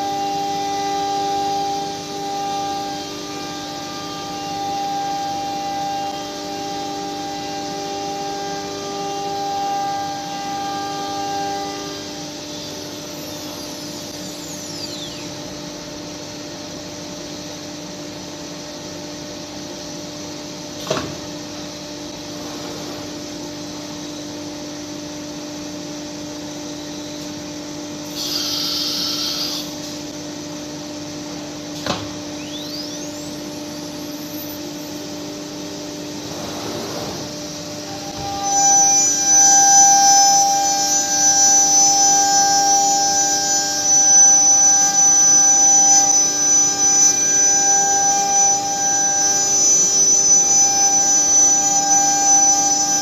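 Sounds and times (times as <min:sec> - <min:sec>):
machine hum: 0:00.0 - 0:53.0
router spindle whine: 0:00.0 - 0:53.0.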